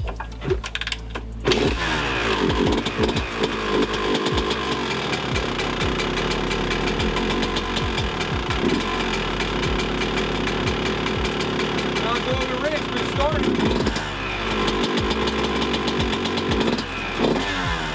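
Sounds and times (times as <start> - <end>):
engine kick start: 0.0 - 17.9
two-stroke engine revving: 1.4 - 17.9.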